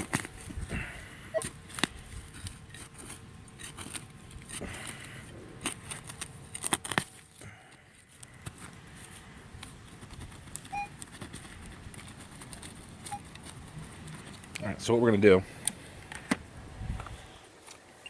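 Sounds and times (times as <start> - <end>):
scraping and rustling of soil: 0.0 - 18.0.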